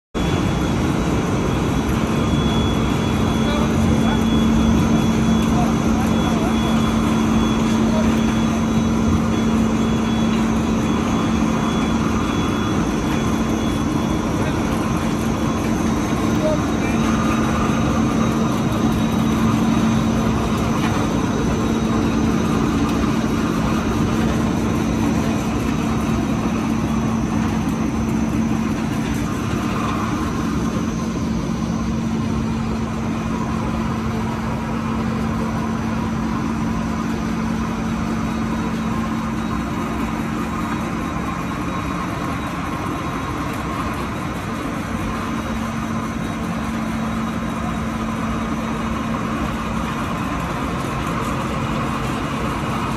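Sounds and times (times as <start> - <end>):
machinery drone with low hum: 0.2 - 52.9.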